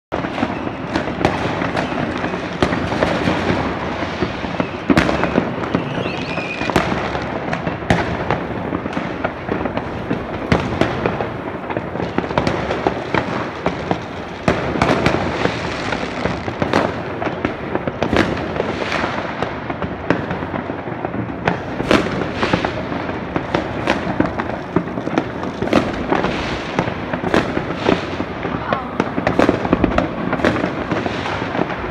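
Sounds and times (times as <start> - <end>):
fireworks crackling: 0.1 - 31.9
sharp firework bangs: 0.1 - 31.9
rising firework whistle: 0.2 - 20.4, 21.4 - 31.9.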